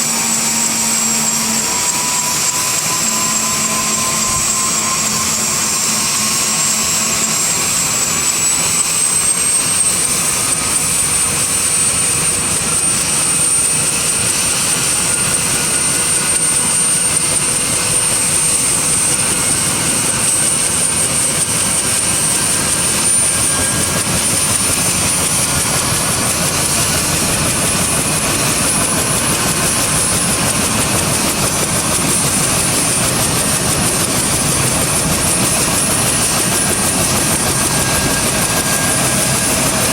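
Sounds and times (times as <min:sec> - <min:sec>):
engine rush: 0:00.0 - 0:39.9
helicopter turbine whine: 0:00.0 - 0:39.9.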